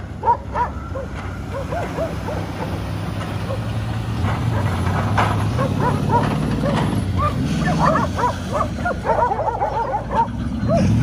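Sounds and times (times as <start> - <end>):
vehicle engine drone: 0.0 - 11.0
dogs barking: 0.2 - 11.0.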